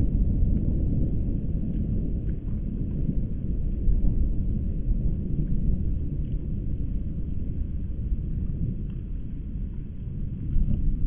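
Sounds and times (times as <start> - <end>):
deep explosion rumble: 0.0 - 11.0
faint crackles: 0.0 - 11.0.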